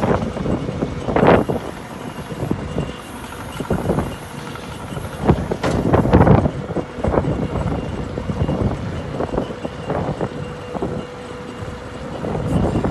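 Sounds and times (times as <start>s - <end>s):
engine running: 0.0s - 12.9s
wind buffeting microphone: 0.0s - 12.9s.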